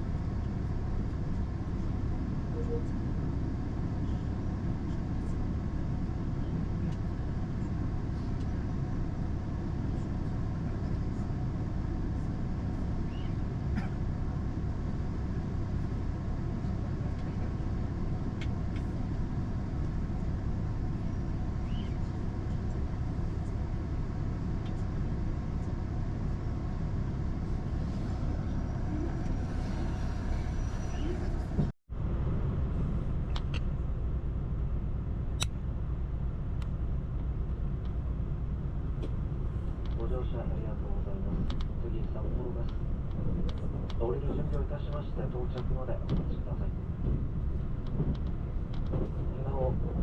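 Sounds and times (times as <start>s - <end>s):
train rumbling at speed: 0.0s - 50.0s.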